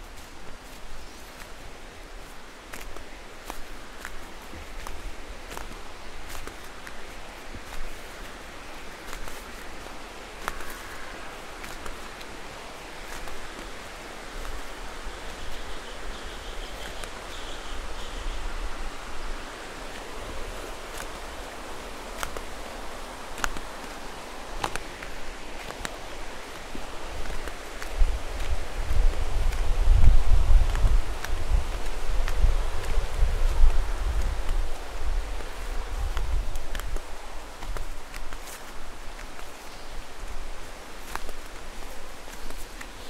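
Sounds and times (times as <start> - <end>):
footsteps on a trail: 0.0 - 43.0
stream water running: 0.0 - 43.0.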